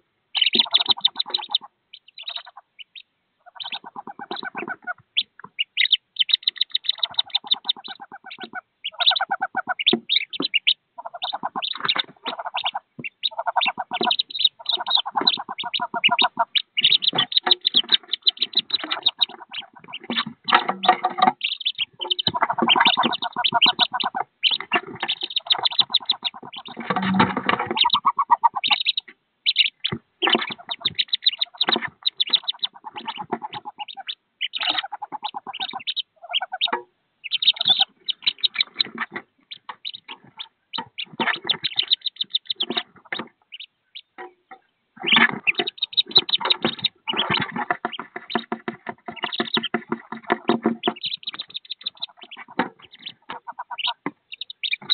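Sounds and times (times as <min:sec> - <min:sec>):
ducklings peeping: 0:00.0 - 0:54.9.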